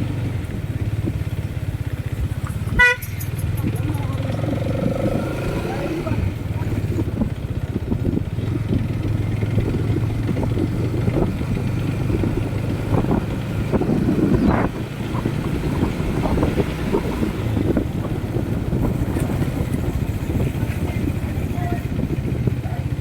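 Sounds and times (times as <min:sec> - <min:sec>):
motorcycle engine hum: 0:00.0 - 0:23.0
wind buffeting microphone: 0:00.0 - 0:23.0.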